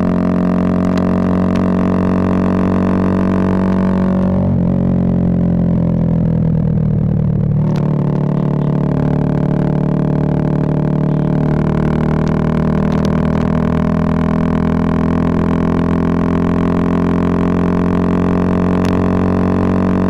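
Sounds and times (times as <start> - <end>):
motorcycle engine droning exhaust: 0.0 - 20.0.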